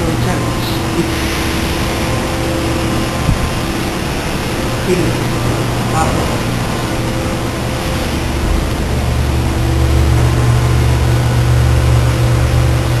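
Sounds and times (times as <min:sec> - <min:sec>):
faint steady tones: 0:00.0 - 0:13.0
low machinery drone: 0:00.0 - 0:13.0.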